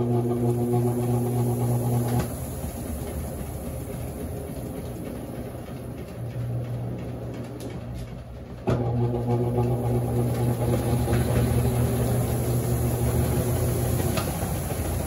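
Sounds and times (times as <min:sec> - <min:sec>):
washing machine churning: 0:00.0 - 0:15.0
washing machine motor hum: 0:00.0 - 0:15.0.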